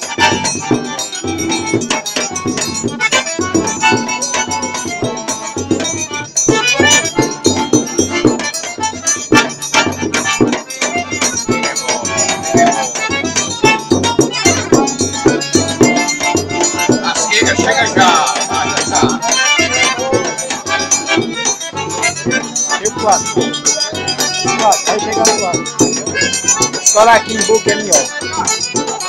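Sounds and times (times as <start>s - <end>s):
accordion playing lively tune: 0.0s - 29.0s.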